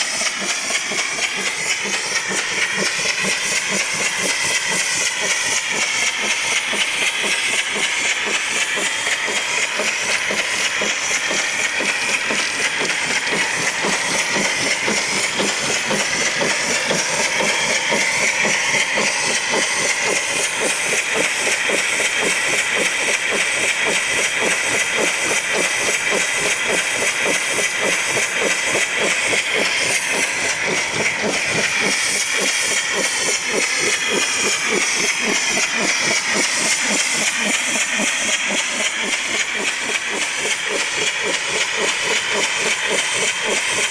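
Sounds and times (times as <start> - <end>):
hiss of escaping steam: 0.0 - 43.9
steam engine exhaust chuffing: 0.0 - 43.9.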